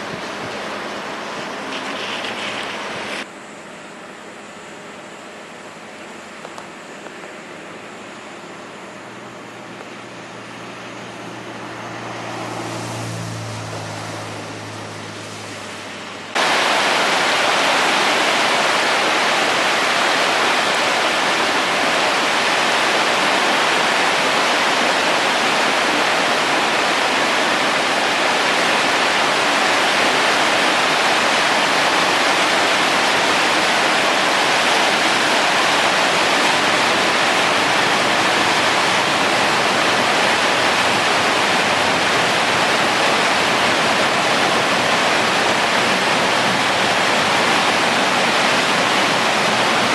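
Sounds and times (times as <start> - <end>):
floodwater rushing: 0.0 - 3.3, 10.5 - 49.9.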